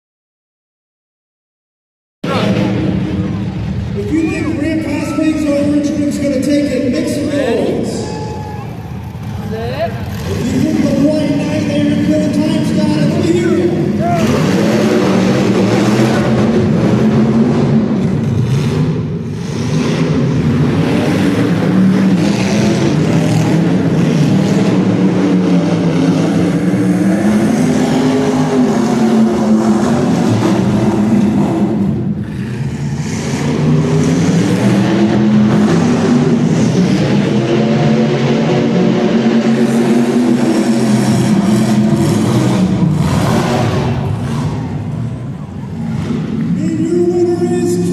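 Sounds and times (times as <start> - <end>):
monster truck engine revving: 2.2 - 47.9.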